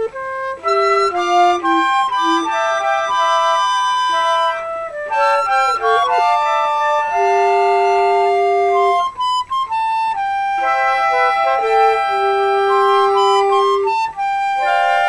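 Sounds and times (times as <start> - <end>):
flutes playing in harmony: 0.0 - 15.0.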